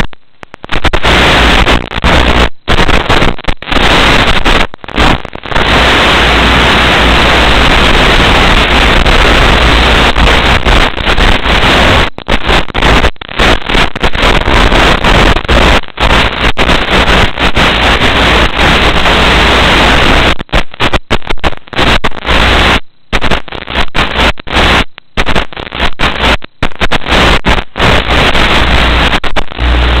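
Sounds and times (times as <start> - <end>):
loud static hiss: 0.0 - 30.0.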